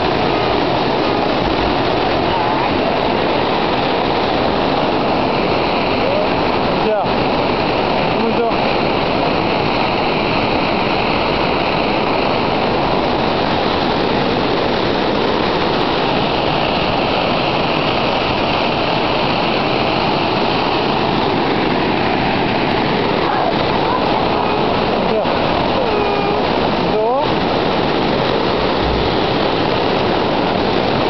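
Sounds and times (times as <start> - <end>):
waterfall pouring onto rocks: 0.0 - 31.0.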